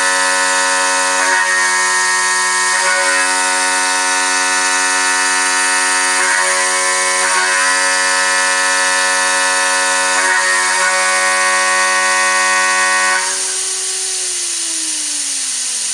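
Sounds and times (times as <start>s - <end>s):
router spindle high-pitched whine: 0.0s - 15.9s.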